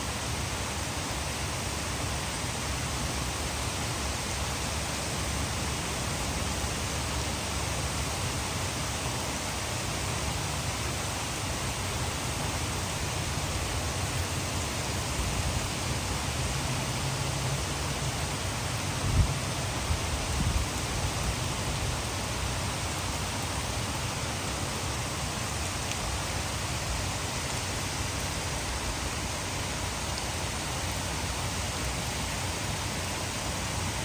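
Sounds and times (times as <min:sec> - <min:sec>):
heavy rain: 0:00.0 - 0:34.0
water pouring over a dam: 0:00.0 - 0:34.0.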